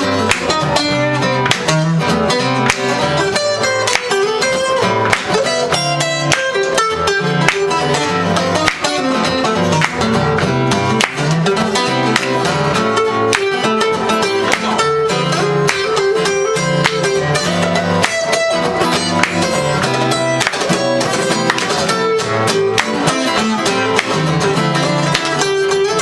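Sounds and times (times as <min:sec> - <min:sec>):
fast acoustic guitar strumming: 0:00.0 - 0:26.0.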